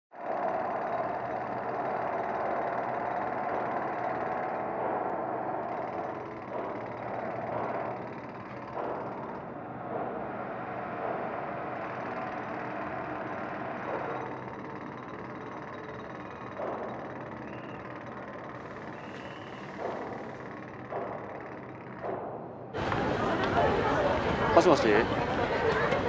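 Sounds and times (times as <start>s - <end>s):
city traffic drone: 0.1s - 26.0s.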